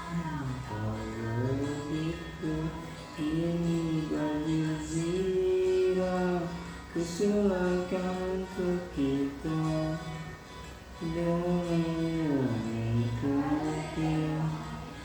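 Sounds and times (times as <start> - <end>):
person singing long gliding notes: 0.0 - 10.3, 11.0 - 15.0.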